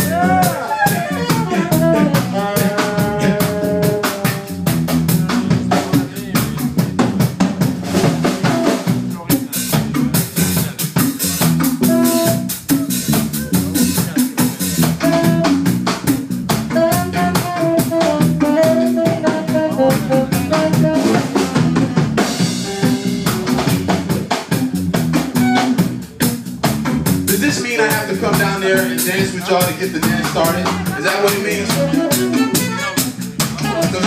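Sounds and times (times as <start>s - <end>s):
bass guitar: 0.0s - 34.0s
drum kit beat: 0.0s - 34.0s.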